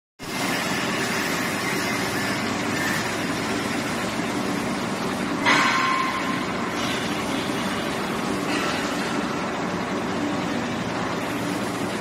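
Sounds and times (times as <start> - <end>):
factory machinery hum: 0.2 - 12.0.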